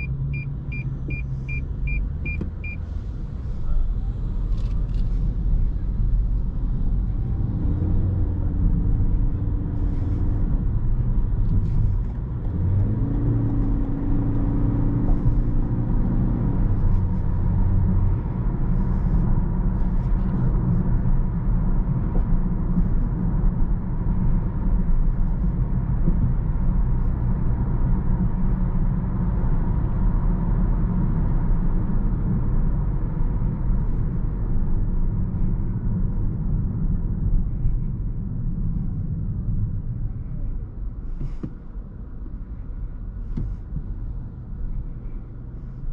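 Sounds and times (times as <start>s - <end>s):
car driving low rumble: 0.0s - 45.9s.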